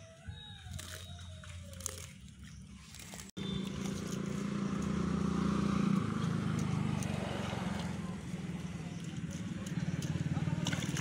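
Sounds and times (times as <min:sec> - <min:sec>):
low engine hum: 0:01.1 - 0:11.0.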